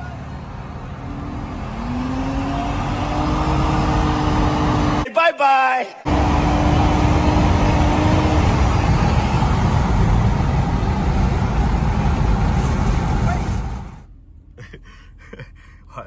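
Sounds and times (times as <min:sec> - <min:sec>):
car engine road and wind noise: 0:00.0 - 0:05.0, 0:06.1 - 0:16.0.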